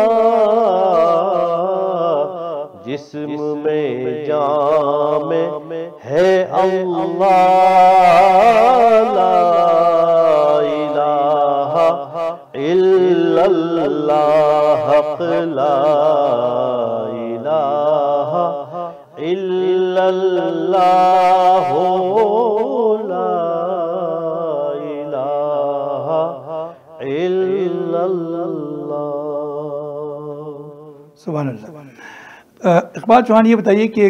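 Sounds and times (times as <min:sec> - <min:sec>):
man chanting melodiously: 0:00.0 - 0:32.0.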